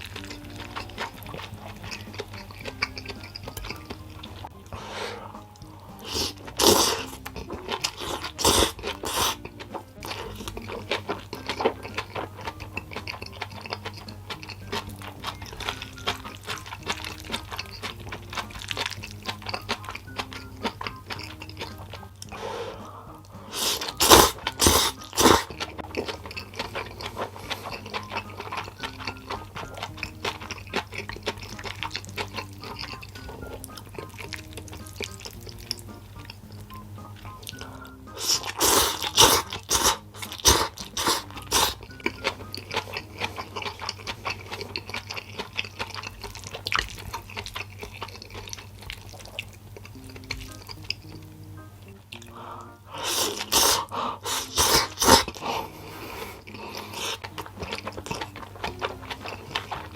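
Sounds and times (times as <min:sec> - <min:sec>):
close chewing of noodles: 0:00.0 - 0:59.9
soft background music: 0:00.0 - 0:59.9.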